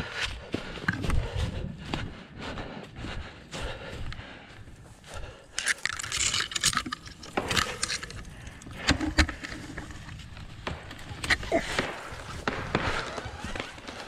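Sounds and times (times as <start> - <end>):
footsteps through dry grass: 0.0 - 14.0.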